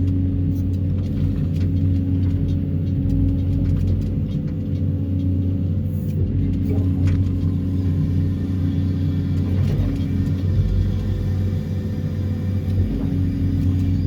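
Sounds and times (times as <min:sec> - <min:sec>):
vibratory pile hammer droning: 0:00.0 - 0:14.0.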